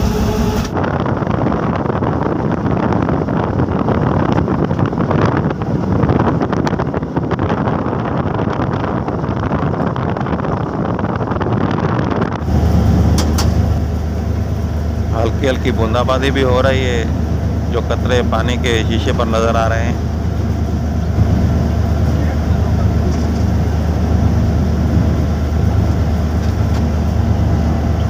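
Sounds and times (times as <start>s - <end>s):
locomotive engine drone: 0.0s - 28.0s
wind buffeting microphone: 0.0s - 28.0s.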